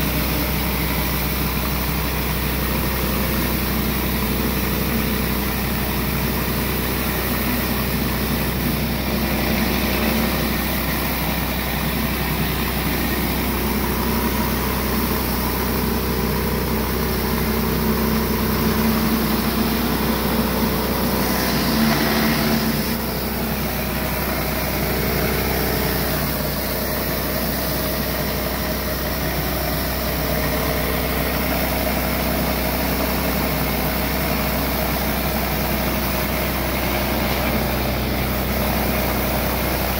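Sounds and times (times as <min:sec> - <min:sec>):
pressure washer running: 0:00.0 - 0:39.9.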